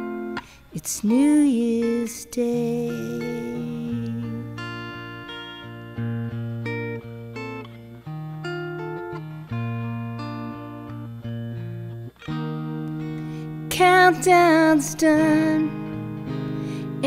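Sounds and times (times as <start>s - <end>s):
clean electric guitar chords: 0.0s - 17.0s.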